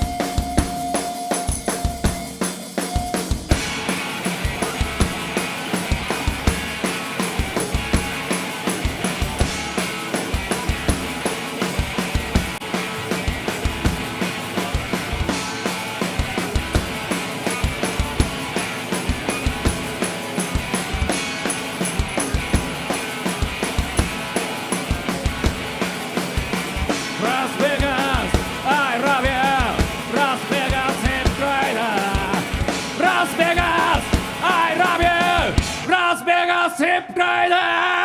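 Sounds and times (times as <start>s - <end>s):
wavering lead guitar line: 0.0s - 36.0s
drum kit beat: 0.0s - 36.1s
punk rock band playing live: 0.0s - 36.1s.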